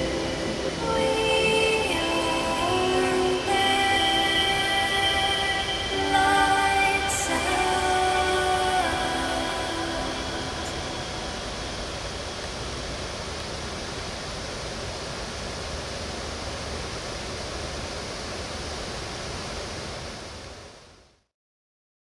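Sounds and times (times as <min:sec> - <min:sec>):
steady hiss of noise: 0:00.0 - 0:21.3.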